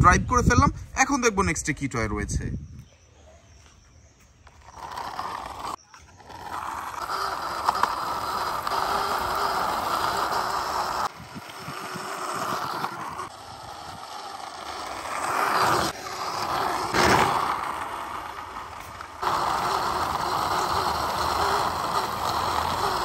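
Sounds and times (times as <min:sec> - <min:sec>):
toy truck wheels rolling on concrete: 0:03.6 - 0:23.0.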